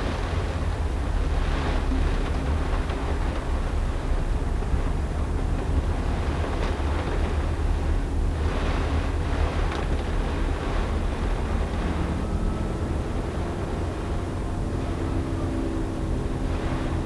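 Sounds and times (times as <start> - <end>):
vehicle driving on wet road: 0.0 - 17.0.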